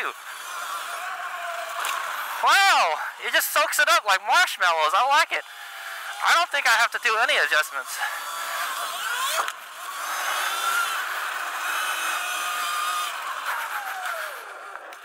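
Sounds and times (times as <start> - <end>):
electric dirt bike motor whining: 0.0 - 3.8, 5.2 - 15.0.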